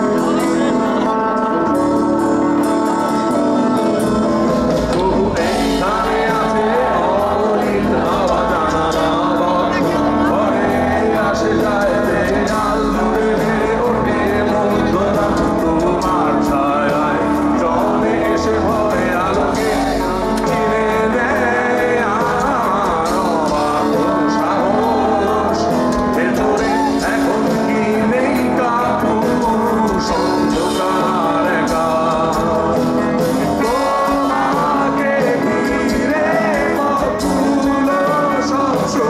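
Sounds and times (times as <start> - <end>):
live rock band playing: 0.0 - 39.0
man singing lead: 0.0 - 39.0.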